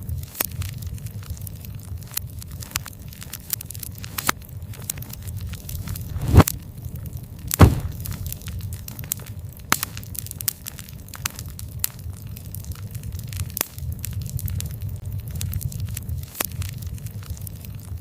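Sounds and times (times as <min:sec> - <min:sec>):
campfire crackling and popping: 0:00.0 - 0:18.0
low roar of flames: 0:00.6 - 0:18.0.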